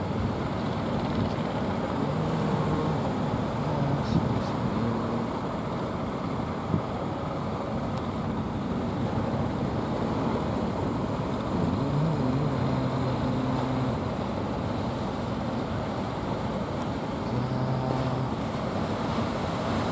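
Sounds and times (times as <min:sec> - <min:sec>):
boat engines running: 0:00.0 - 0:19.9
surf washing: 0:00.0 - 0:19.9
wind: 0:00.0 - 0:19.9.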